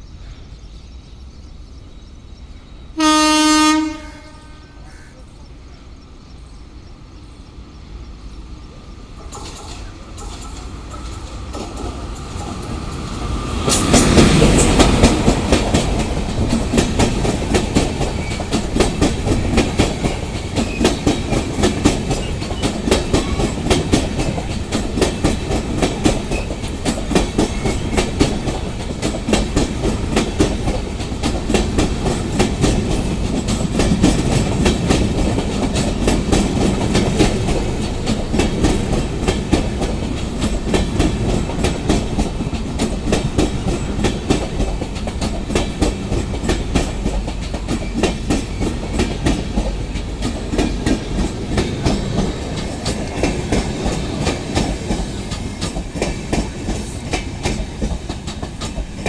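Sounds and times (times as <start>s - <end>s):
train passing at speed: 0.0s - 59.0s
wheels clacking over rail joints: 9.2s - 59.0s.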